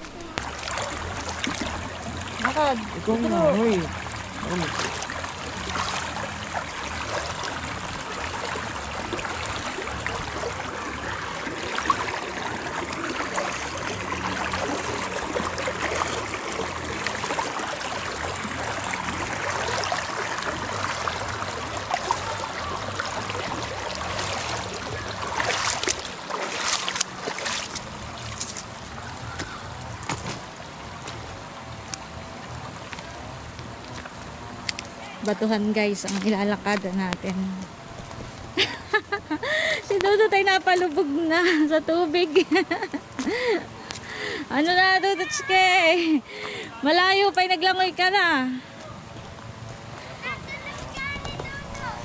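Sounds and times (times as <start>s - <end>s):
creek water flowing over rocks: 0.0s - 52.0s.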